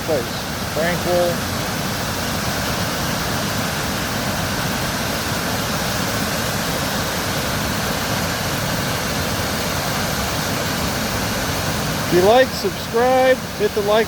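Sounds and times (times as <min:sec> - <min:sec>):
water pouring over a dam: 0:00.0 - 0:14.0.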